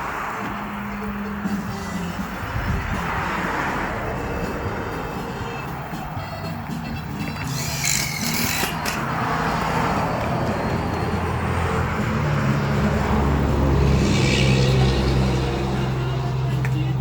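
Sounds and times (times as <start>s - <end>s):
tyre noise: 0.0s - 14.9s
vehicles passing: 0.0s - 17.0s.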